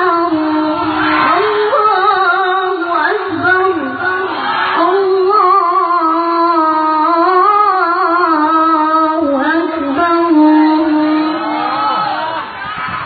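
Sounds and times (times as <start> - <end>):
child chanting recitation: 0.0 - 11.4.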